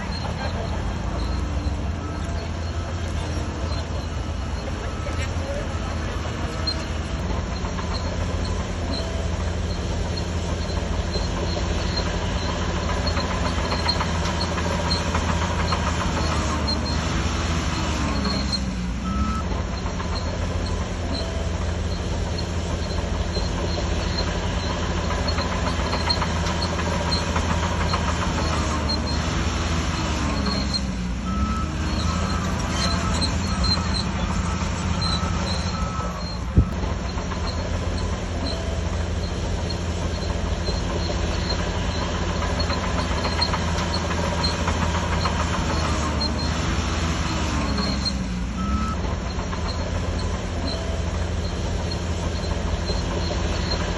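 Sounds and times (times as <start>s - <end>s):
bulldozer diesel engine under load: 0.0s - 53.9s
steel tracks clattering: 0.0s - 53.9s.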